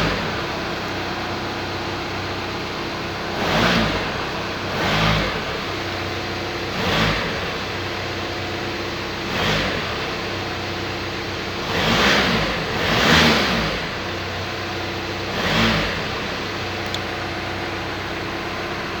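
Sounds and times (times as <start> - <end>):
engine revving: 0.0 - 17.0
car engine idling: 0.0 - 19.0.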